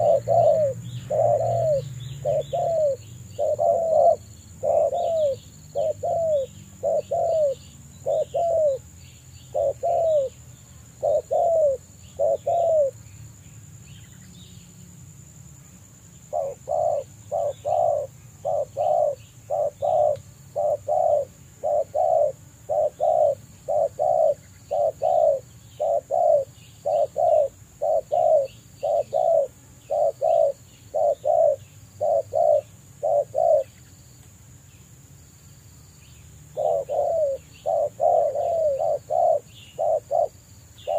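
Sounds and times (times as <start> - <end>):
doves cooing: 0.0 - 8.9, 9.5 - 10.4, 11.0 - 13.0, 16.3 - 33.8, 36.5 - 40.9.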